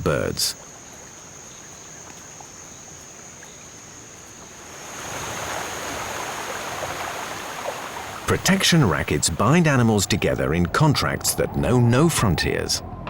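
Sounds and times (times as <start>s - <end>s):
water rushing: 0.0s - 12.6s.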